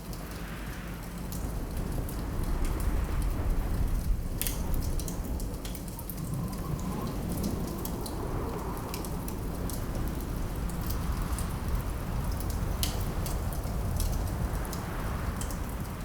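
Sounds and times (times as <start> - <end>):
low rumble of wind: 0.0 - 16.0.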